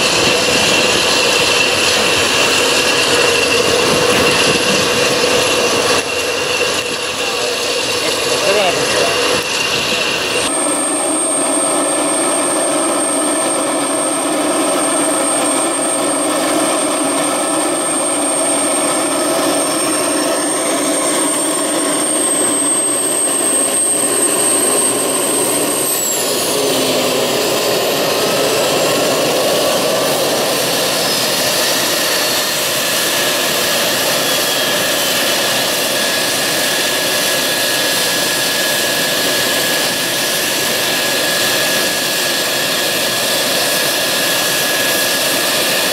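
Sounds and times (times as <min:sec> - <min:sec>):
jet engine whine: 0:00.0 - 0:45.9.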